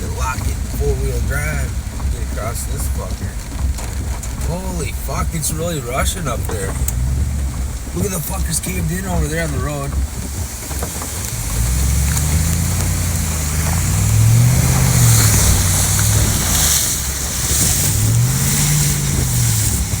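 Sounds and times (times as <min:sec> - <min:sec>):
vehicle engine under load: 0:00.0 - 0:20.0.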